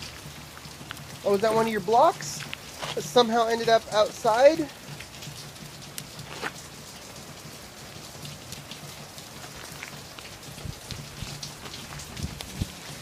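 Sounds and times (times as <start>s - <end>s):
drops ticking close by: 0.0s - 13.0s
rain falling steadily: 0.0s - 13.0s.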